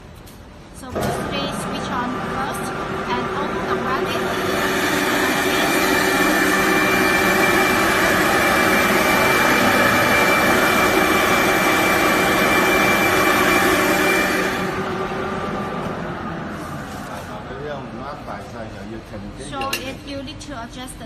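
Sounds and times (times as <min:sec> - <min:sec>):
industrial grinder whirring: 0:00.9 - 0:18.7.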